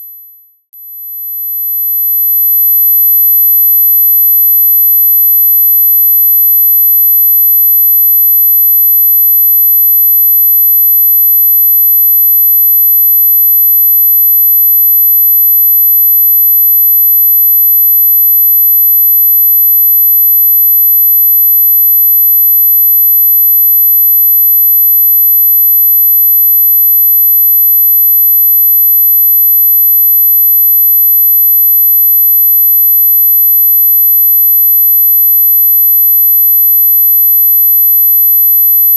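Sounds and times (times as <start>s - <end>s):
high-pitched sine tone: 0.0s - 38.9s.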